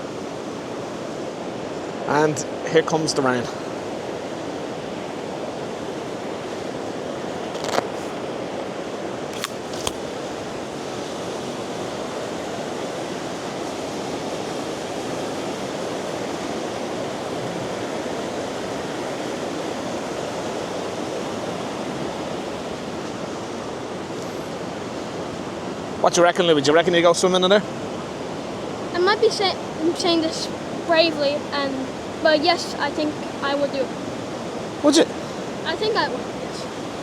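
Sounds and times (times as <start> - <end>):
river rapids rushing: 0.0 - 37.0.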